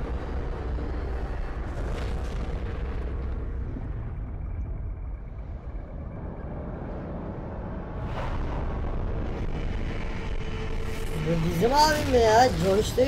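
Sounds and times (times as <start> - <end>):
explosion rumble: 0.0 - 13.0.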